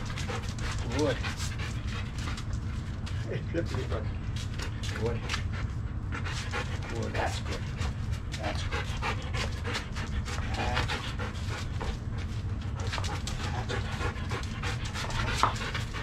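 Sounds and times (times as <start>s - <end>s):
dog panting quickly: 0.0s - 16.0s
steady low hum: 0.0s - 16.0s.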